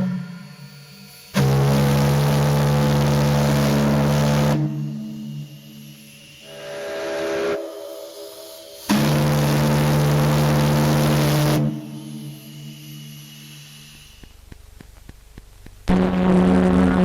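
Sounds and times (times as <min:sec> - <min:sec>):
steam whistle chord: 0:00.0 - 0:14.2
steam hissing: 0:00.0 - 0:15.9.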